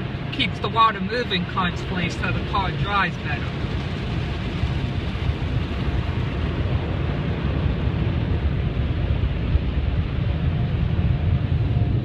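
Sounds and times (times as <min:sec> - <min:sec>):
car wash low rumble: 0:00.0 - 0:12.0.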